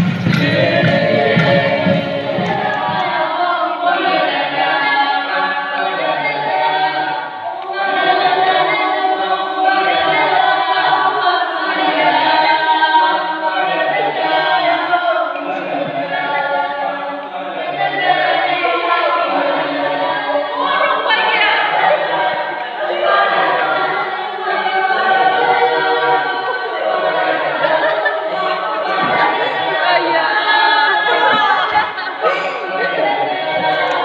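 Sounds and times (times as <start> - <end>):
group singing unaccompanied chant: 0.0 - 34.0.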